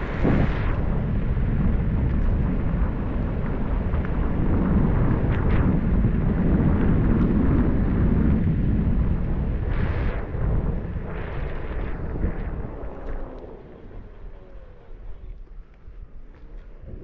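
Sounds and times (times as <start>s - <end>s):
wind rumble: 0.0s - 17.0s.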